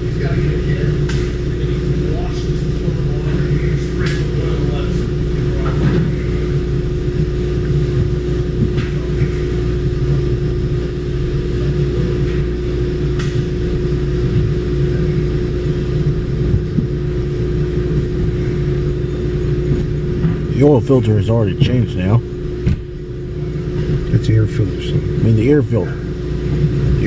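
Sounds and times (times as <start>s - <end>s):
droning hum: 0.0s - 27.0s
mechanical rumble: 0.0s - 27.0s.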